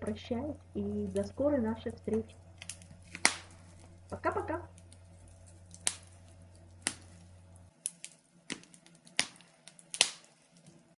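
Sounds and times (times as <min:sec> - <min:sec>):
faint steady hum: 0:00.0 - 0:11.0
fire crackling and popping: 0:00.0 - 0:11.0.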